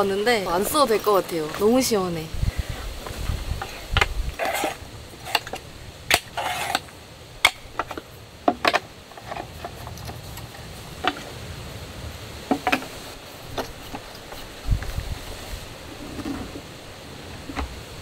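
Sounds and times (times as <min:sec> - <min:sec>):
low wind rumble: 0:00.0 - 0:18.0.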